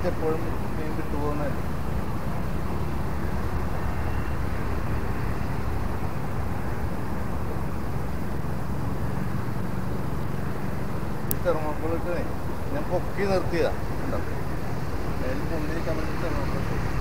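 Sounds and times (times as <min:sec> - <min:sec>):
distant engines rumbling: 0:00.0 - 0:17.0
faint engine hum: 0:00.0 - 0:17.0.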